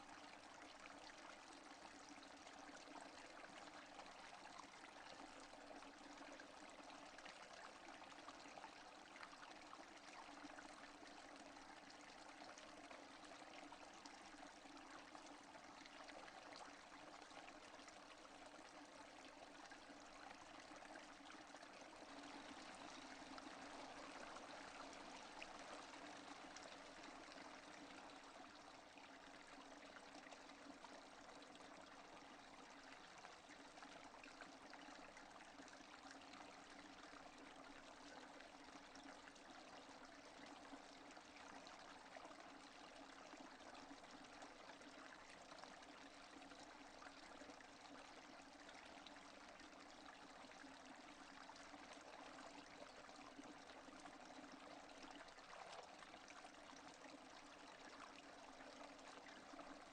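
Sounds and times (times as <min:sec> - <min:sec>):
faint steady rain: 0:00.0 - 0:59.9.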